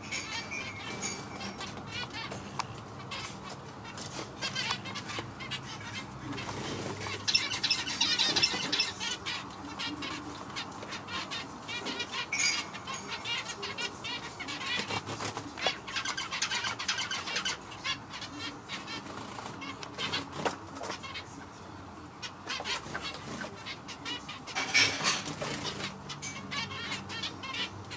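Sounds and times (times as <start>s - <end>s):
finch chirping: 0.0s - 21.4s, 22.2s - 27.9s.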